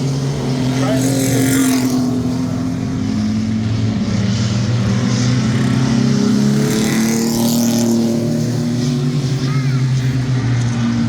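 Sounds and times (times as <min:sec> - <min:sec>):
race truck engines running hard: 0:00.0 - 0:11.0.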